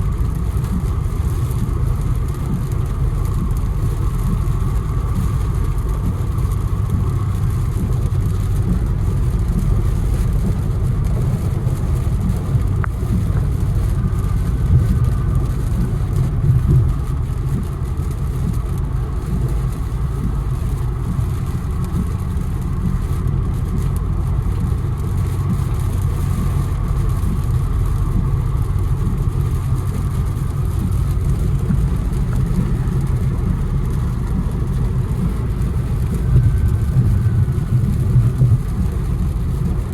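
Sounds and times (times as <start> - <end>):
car engine drone: 0.0 - 39.9
road noise: 0.0 - 39.9.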